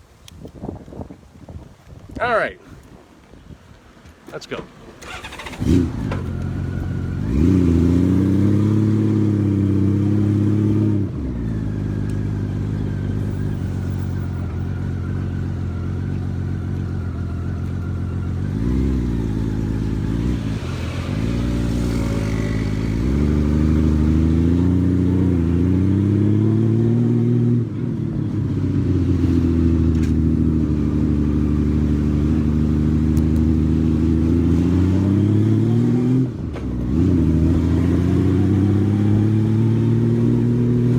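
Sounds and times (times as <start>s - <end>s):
motorcycle engine riding: 5.0s - 40.9s.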